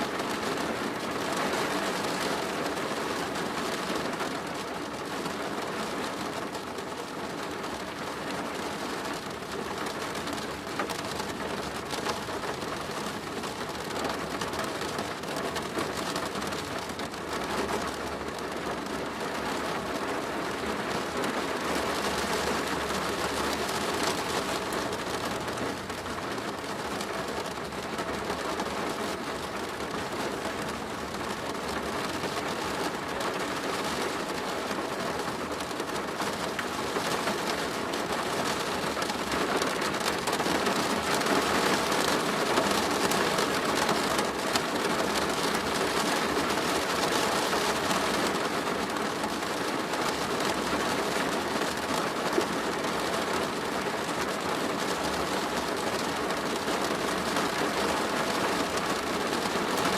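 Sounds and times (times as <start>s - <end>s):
rain drumming on plastic roof: 0.0s - 59.9s.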